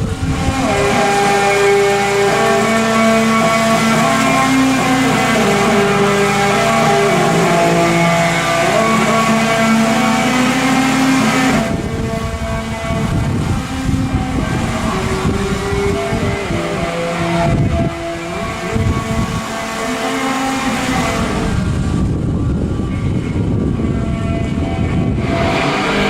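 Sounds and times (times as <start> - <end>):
motor vehicle running: 0.0 - 26.0
music with long held notes: 0.0 - 26.0.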